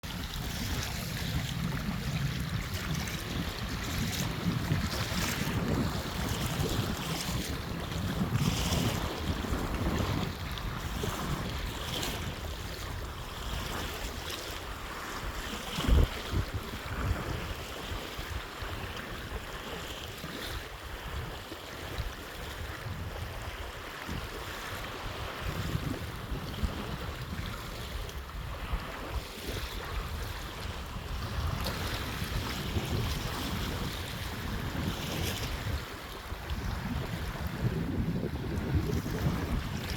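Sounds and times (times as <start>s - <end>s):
surf washing on beach: 0.0s - 39.9s
wind rumbling on microphone: 0.0s - 39.9s.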